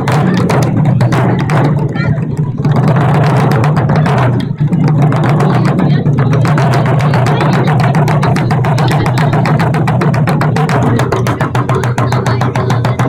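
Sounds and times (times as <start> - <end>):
taiko drums beating fast: 0.0 - 13.0.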